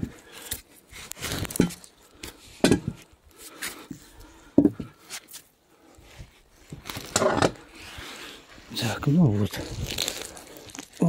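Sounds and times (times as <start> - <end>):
rustling: 0.1 - 4.4, 5.0 - 11.0.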